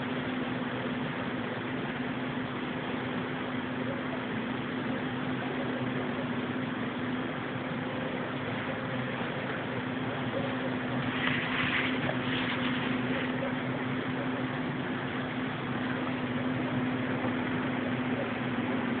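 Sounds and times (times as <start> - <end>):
continuous hiss: 0.0 - 19.0
low mechanical drone: 0.0 - 19.0.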